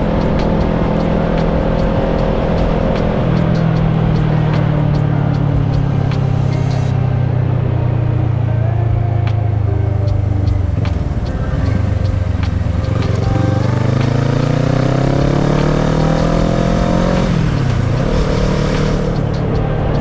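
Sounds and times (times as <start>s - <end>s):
motorcycle engine: 0.0s - 20.0s
wind and road noise: 0.0s - 20.0s.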